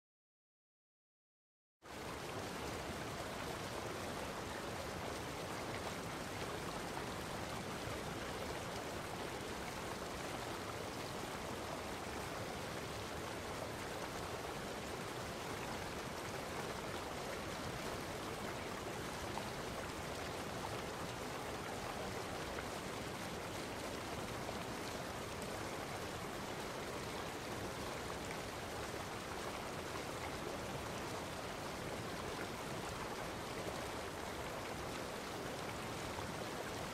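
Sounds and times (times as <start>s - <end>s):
running water rushing: 1.9s - 36.9s.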